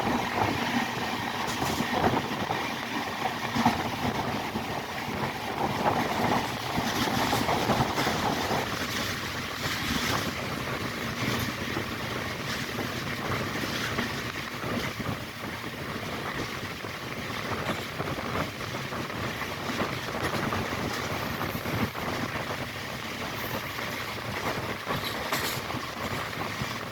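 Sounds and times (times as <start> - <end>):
train rumbling and rattling: 0.0 - 26.9
wind noise: 0.0 - 26.9.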